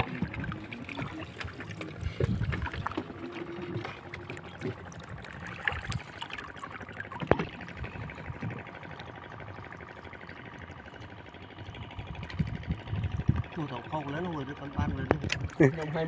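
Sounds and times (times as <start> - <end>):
seawater splashing and dripping: 0.0 - 14.0.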